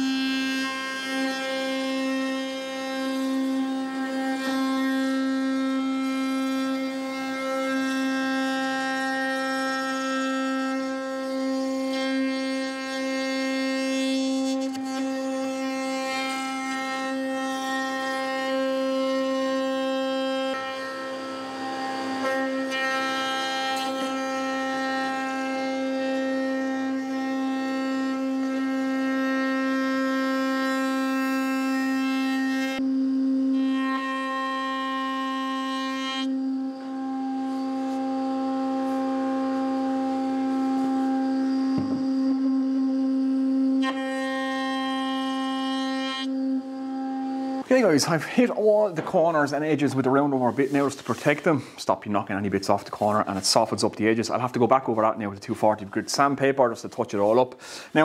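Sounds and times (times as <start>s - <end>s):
router whining: 0.0s - 34.0s, 34.9s - 50.9s.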